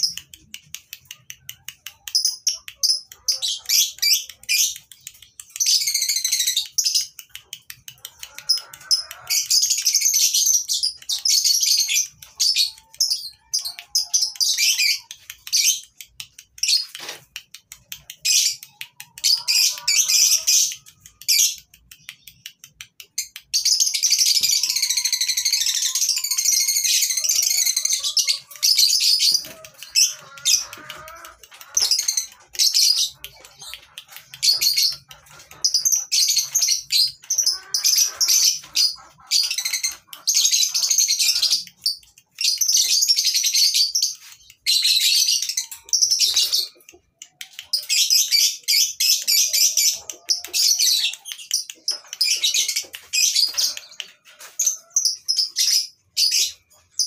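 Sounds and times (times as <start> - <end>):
lovebirds chattering and trilling: 0.0 - 57.0.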